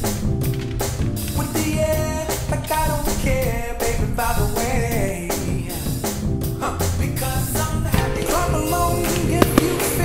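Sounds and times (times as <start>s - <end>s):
pop song with singer and drums: 1.1s - 10.0s.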